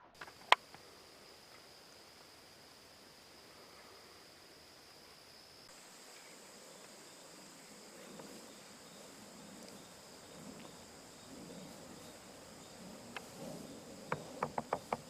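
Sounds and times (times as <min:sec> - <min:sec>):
insects trilling: 0:00.2 - 0:15.0.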